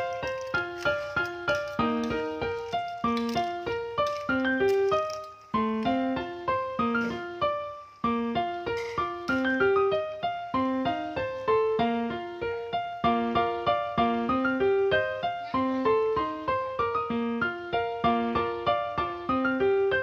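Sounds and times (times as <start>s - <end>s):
bright keyboard melody: 0.0s - 20.0s.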